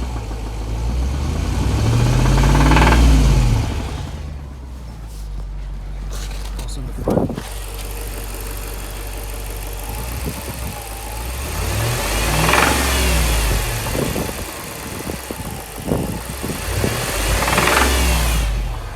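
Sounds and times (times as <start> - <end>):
engine idling and revving: 0.0 - 18.9.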